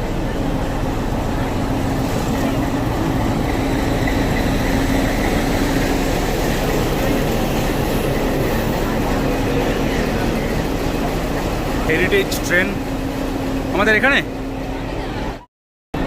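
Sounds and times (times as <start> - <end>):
locomotive engine hum: 0.0 - 16.0.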